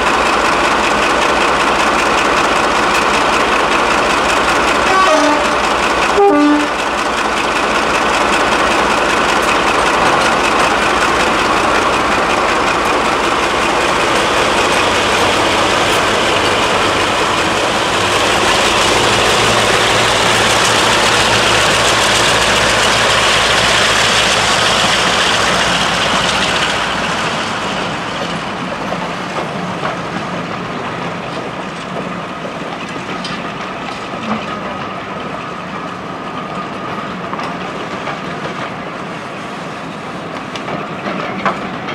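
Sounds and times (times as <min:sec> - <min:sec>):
wheel-on-rail rumble: 0:00.0 - 0:36.6
diesel locomotives running: 0:00.0 - 0:41.9.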